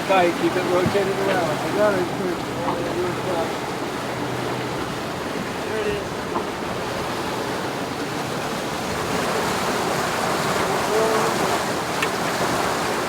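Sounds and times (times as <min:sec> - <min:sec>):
water rushing along boat hull: 0:00.0 - 0:13.0
wind: 0:00.0 - 0:13.0.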